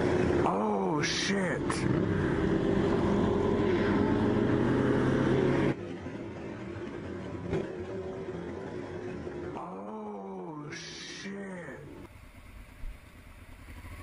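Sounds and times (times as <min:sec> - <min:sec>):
motorcycle engine cruising: 0:00.0 - 0:10.2, 0:11.8 - 0:14.0
motorcycles riding: 0:00.0 - 0:14.0.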